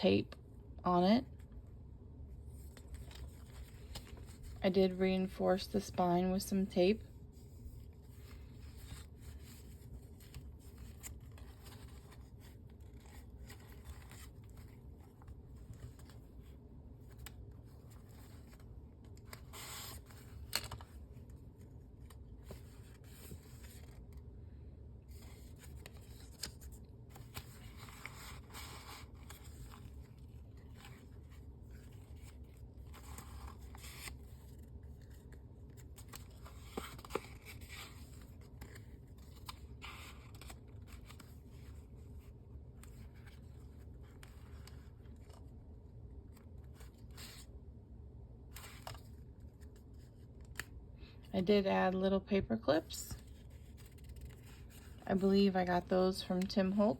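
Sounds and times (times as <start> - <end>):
paper pages rustling: 2.4 - 4.7, 7.4 - 24.3, 25.0 - 47.5, 48.4 - 50.8, 53.1 - 55.5.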